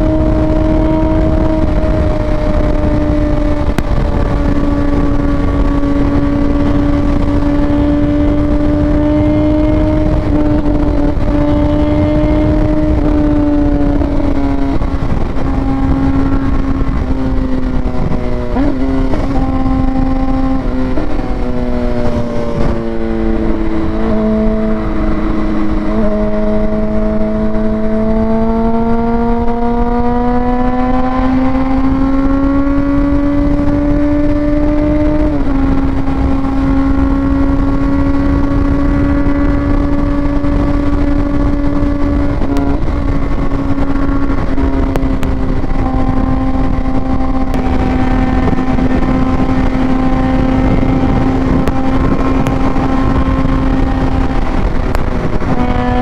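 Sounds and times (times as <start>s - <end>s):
low rush: 0.0s - 56.0s
motorcycle engine running: 0.0s - 56.0s.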